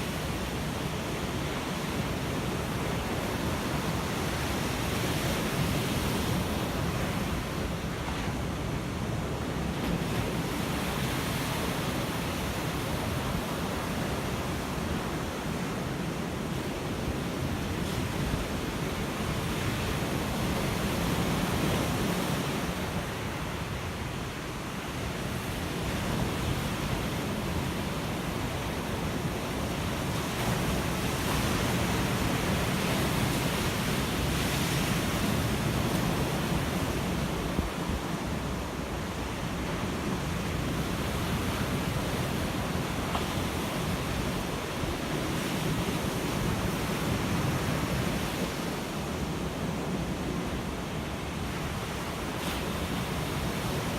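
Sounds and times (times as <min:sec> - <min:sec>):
ocean waves breaking: 0:00.0 - 0:53.9.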